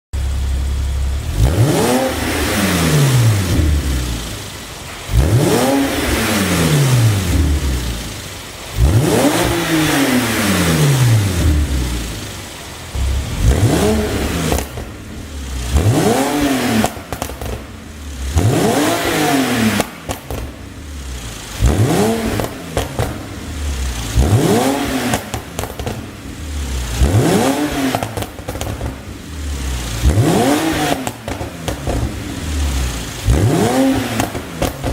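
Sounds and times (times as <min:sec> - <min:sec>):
exhaust popping and crackling: 0:00.1 - 0:34.9
car engine revving: 0:00.2 - 0:34.9.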